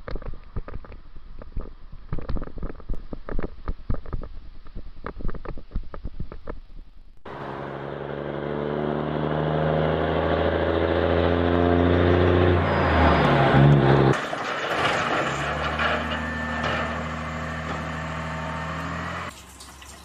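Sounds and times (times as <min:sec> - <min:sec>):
vehicle engine under load: 0:00.0 - 0:19.7.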